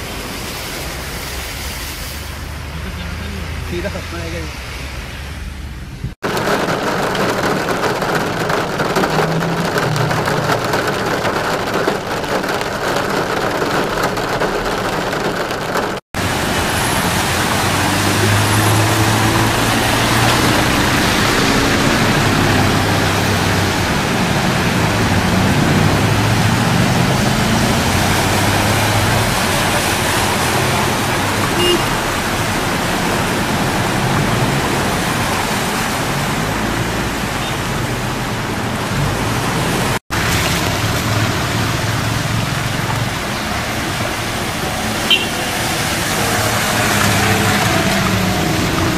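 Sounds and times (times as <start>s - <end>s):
wet road noise: 0.0s - 48.9s.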